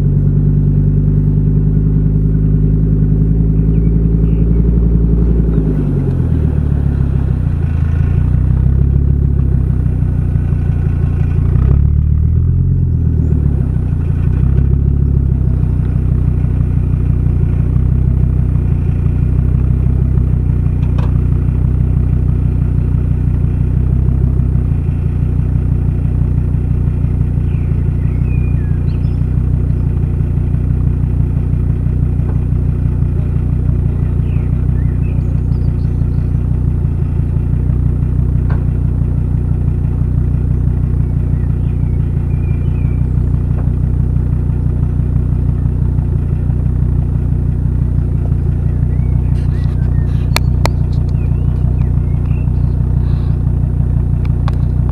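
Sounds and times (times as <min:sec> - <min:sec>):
car engine and exhaust running: 0:00.0 - 0:54.9.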